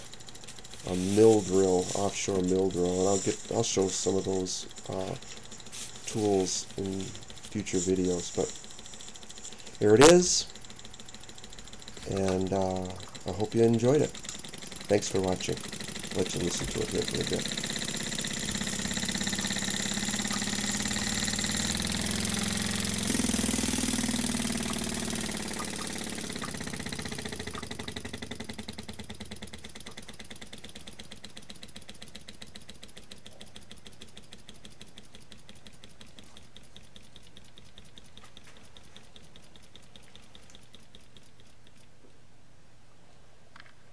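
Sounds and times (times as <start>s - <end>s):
engine parts clattering: 0.0s - 36.4s
small air engine chuffing: 0.0s - 42.1s.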